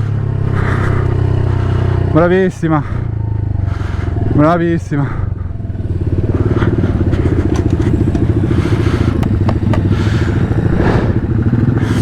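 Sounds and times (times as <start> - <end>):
pit bike engine running: 0.1 - 12.0.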